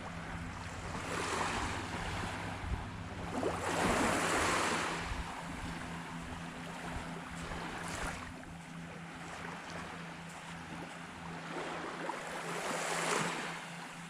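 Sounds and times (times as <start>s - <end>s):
small waves breaking on beach: 0.0s - 14.0s.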